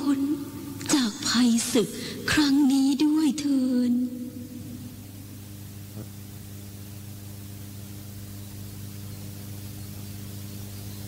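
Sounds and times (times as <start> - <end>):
constant hiss: 0.0 - 11.0
low electrical hum: 0.0 - 11.0.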